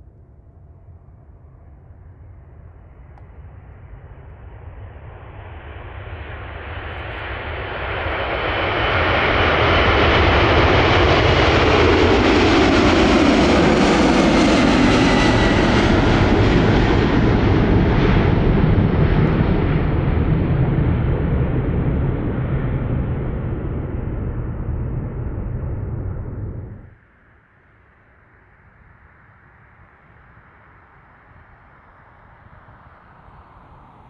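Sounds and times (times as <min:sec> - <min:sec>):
jet engines at takeoff: 0:00.0 - 0:34.0.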